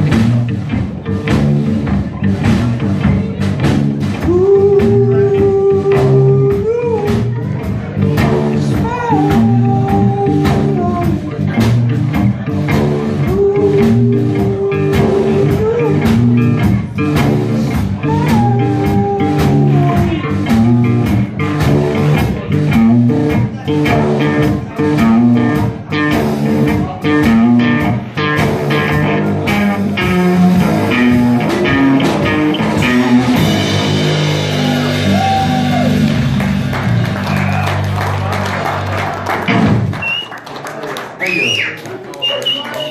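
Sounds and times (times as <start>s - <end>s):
electric bass: 0.0s - 40.2s
steady drumbeat: 0.0s - 40.3s.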